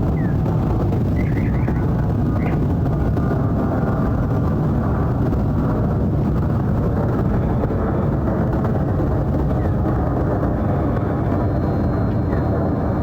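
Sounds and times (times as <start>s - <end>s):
jet engine noise overhead: 0.0s - 13.0s.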